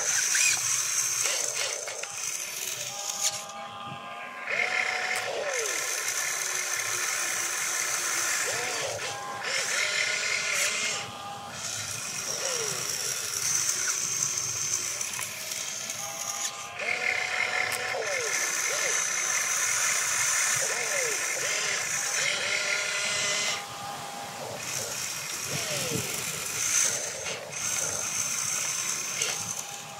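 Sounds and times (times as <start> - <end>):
toy excavator motors whining: 0.0 - 29.9.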